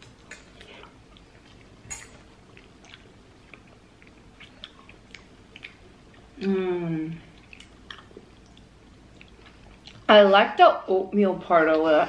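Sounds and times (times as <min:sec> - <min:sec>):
quiet chewing: 0:00.0 - 0:10.1.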